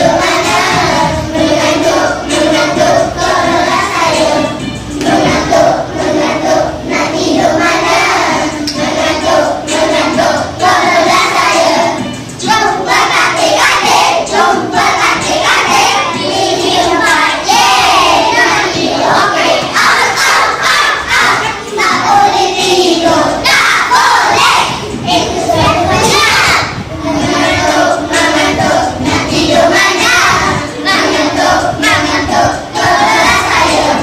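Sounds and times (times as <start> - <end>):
children singing together: 0.0 - 34.0.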